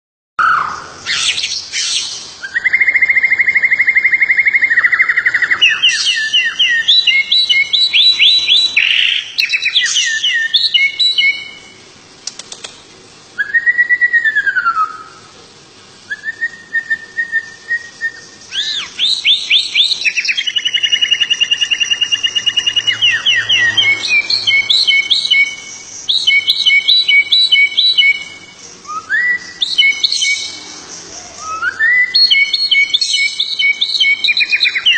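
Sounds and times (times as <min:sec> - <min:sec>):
songbird singing: 0:00.4 - 0:12.7, 0:16.1 - 0:34.9.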